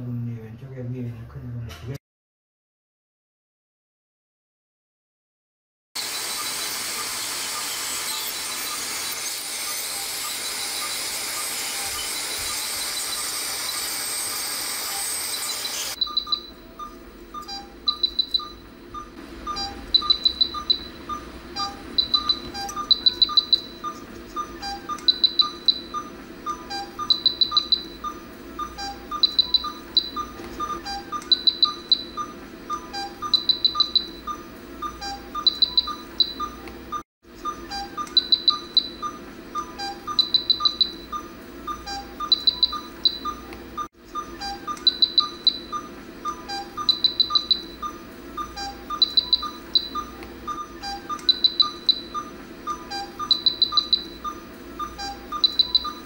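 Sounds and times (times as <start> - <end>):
high electronic chirping beeps: 10.0 - 56.0.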